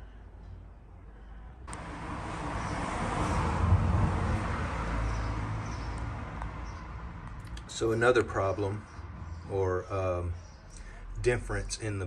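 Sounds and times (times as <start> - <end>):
road vehicle passing: 1.6 - 11.9.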